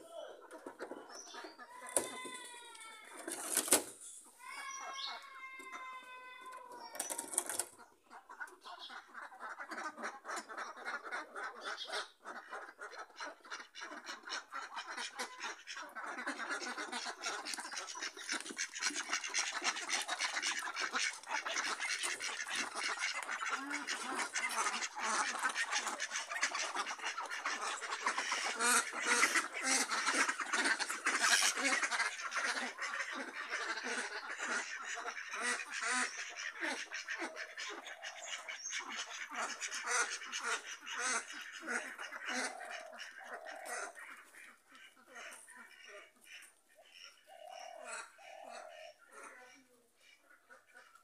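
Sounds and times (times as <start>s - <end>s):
ducks quacking: 0.0s - 2.4s, 6.7s - 51.0s.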